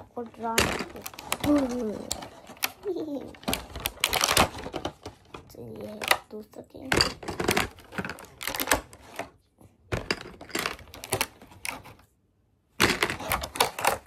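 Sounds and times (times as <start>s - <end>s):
plastic toy pieces clattering: 0.2s - 9.3s, 9.9s - 12.0s, 12.8s - 14.0s.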